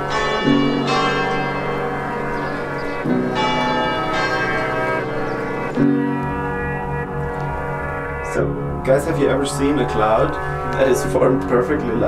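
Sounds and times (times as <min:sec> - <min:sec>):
chiming music over chords: 0:00.0 - 0:12.0.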